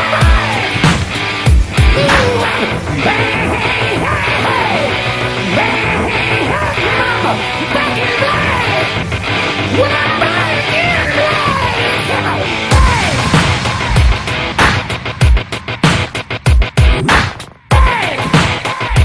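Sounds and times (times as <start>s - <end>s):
rock music with singing: 0.0s - 19.0s.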